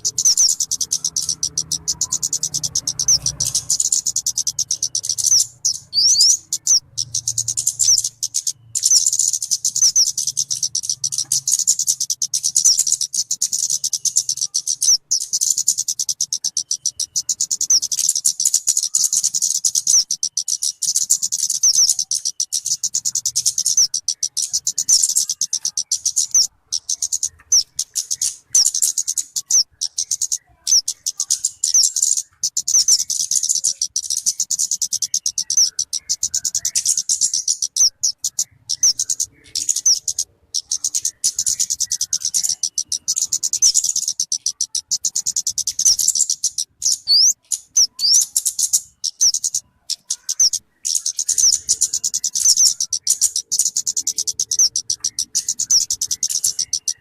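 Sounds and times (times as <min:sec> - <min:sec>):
bird chirping and trilling: 0:00.0 - 0:57.0.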